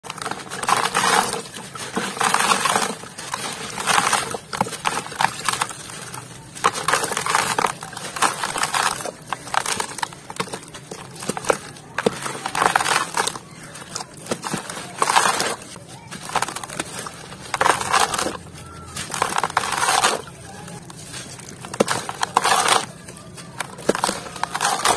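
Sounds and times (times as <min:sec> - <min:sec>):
sandy chunk crunching: 0:00.0 - 0:24.9.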